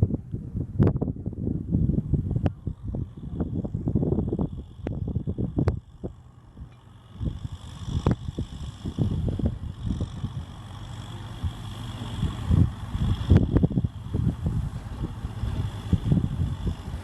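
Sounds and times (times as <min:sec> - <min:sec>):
wind buffeting microphone: 0:00.0 - 0:17.0
tractor diesel engine running: 0:00.2 - 0:17.0.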